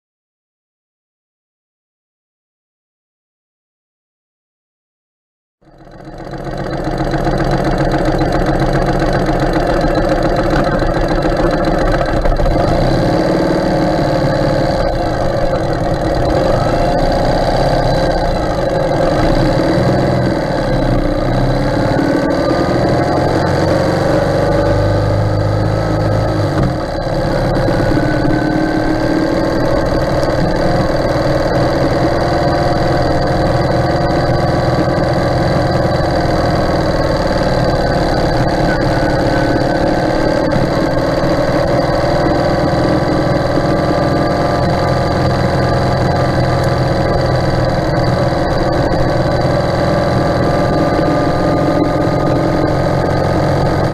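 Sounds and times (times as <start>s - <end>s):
motorcycle engine running: 5.6s - 53.9s.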